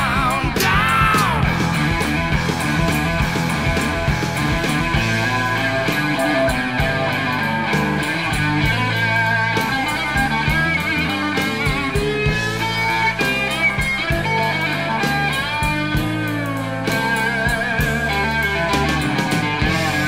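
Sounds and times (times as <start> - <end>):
hard rock music: 0.0 - 20.0.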